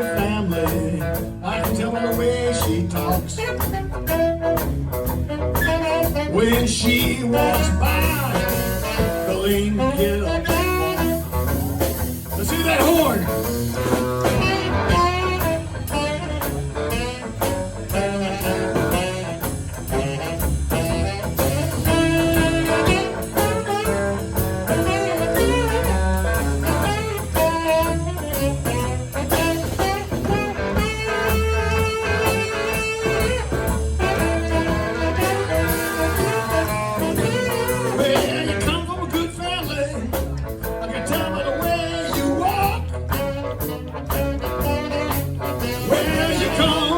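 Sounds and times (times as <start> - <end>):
live blues band playing: 0.0 - 46.9
horn solo: 1.6 - 39.9, 40.7 - 46.9.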